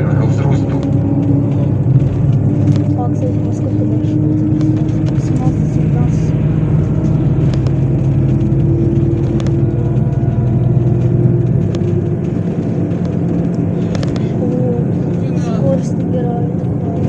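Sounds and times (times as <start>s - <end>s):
bus diesel engine drone: 0.0s - 17.0s
road noise: 0.0s - 17.0s
light rattling clicks: 0.2s - 17.0s.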